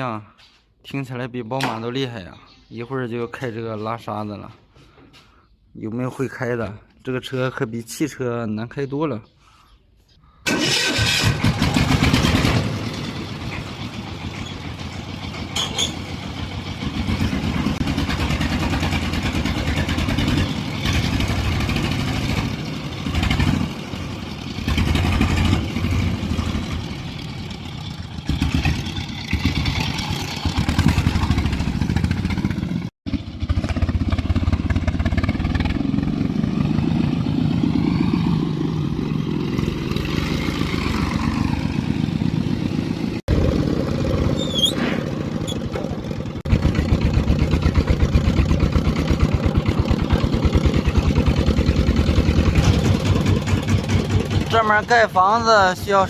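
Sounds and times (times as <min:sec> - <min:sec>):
farm truck engine running: 0:10.5 - 0:56.0.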